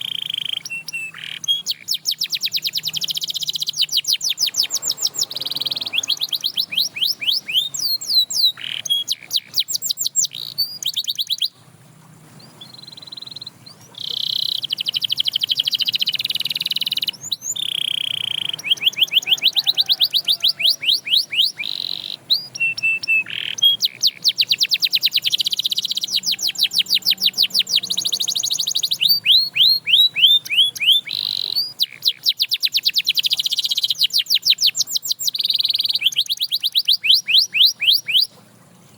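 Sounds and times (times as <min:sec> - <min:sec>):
canary singing: 0:00.0 - 0:11.6, 0:12.4 - 0:38.4.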